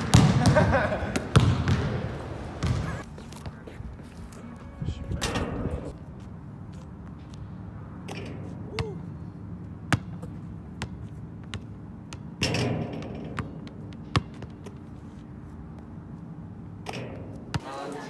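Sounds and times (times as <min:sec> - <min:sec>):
basketballs bouncing on asphalt: 0:00.0 - 0:03.8, 0:06.0 - 0:17.7.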